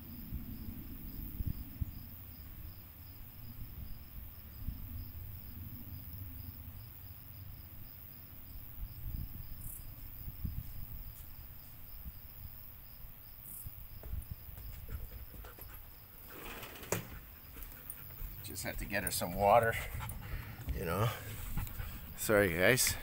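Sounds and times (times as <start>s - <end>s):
insect chirping: 0.0s - 23.0s.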